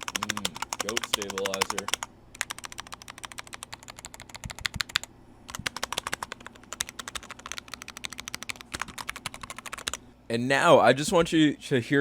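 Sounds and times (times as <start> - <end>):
mechanical keyboard typing: 0.0 - 10.0.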